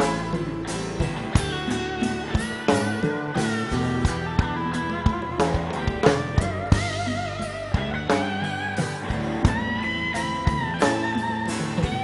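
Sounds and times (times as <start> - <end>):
live band playing: 0.0 - 12.0
vibrato lead melody: 0.0 - 12.0.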